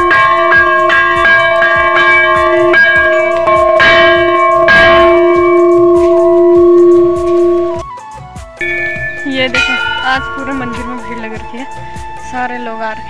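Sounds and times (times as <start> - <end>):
temple bell ringing: 0.0 - 7.8, 8.6 - 12.1.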